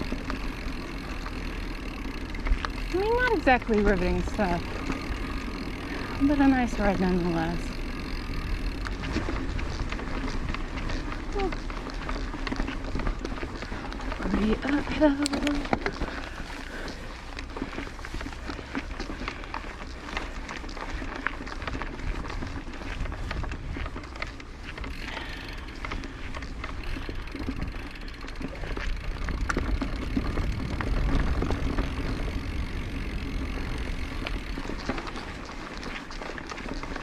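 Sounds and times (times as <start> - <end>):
bike clicks and rattles: 0.0 - 37.0
bike tyres rolling on dirt: 0.0 - 37.0.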